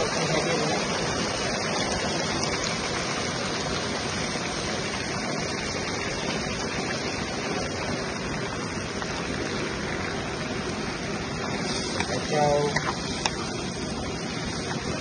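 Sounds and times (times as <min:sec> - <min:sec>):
food simmering in a pan: 0:00.0 - 0:15.0.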